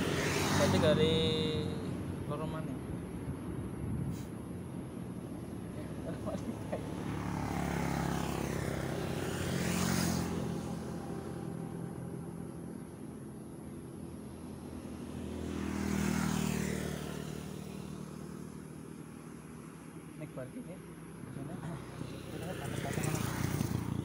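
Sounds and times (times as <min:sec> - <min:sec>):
low engine hum: 0:00.0 - 0:24.0
motor vehicles passing by: 0:00.0 - 0:24.0.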